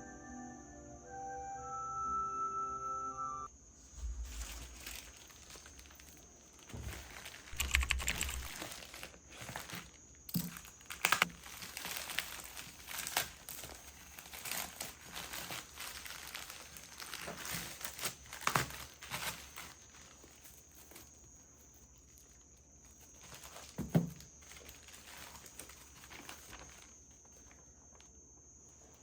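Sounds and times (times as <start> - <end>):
crinkling and rustling: 3.8 - 29.0.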